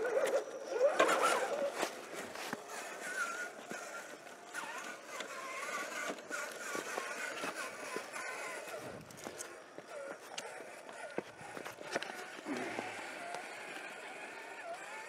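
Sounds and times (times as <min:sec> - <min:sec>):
electric motor and gearbox whine: 0:00.0 - 0:15.0.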